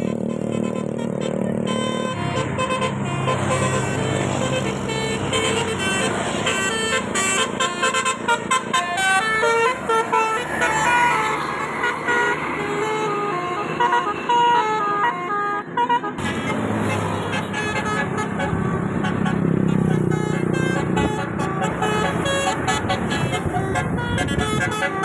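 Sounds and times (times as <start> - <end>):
vehicle engine running: 0.0 - 14.8, 16.2 - 25.0
multi-tone bus horn tune: 0.0 - 25.0
street noise: 0.0 - 25.0.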